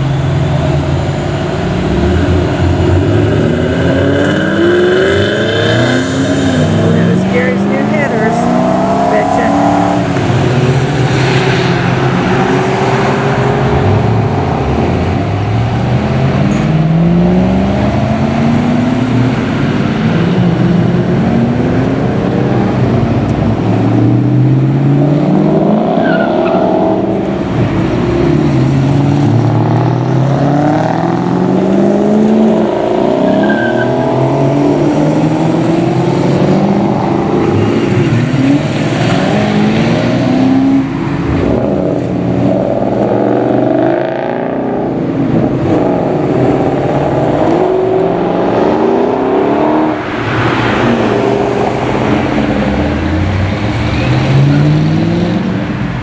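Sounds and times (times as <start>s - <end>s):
cars accelerating away: 0.0s - 56.0s.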